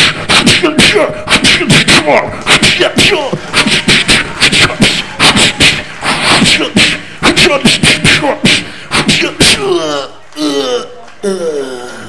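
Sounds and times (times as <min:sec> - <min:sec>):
man making mouth sound effects: 0:00.0 - 0:12.0.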